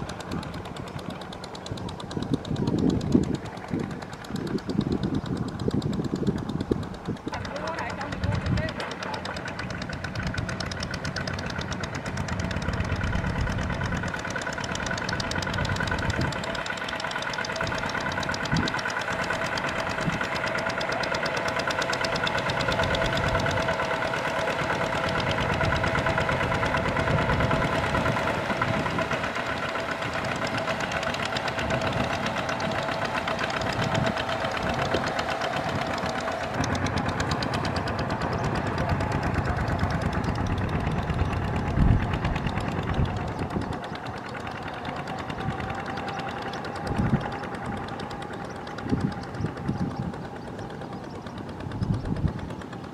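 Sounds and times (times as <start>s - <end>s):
diesel tractor engine knocking: 0.0s - 52.9s.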